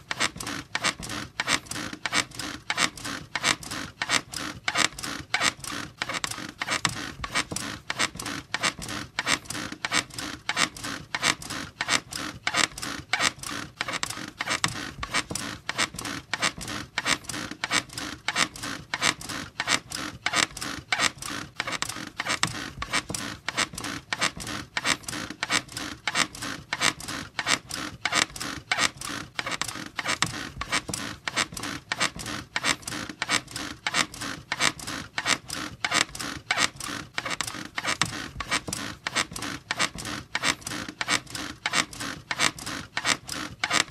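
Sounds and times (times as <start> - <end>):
bed squeaking rhythmically: 0.0 - 43.9.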